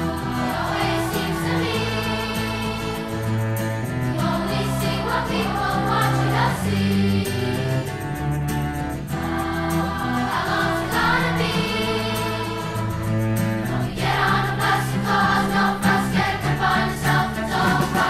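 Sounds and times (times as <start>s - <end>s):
children's choir singing: 0.0s - 8.4s, 9.0s - 18.0s
instrumental backing music: 0.0s - 18.0s.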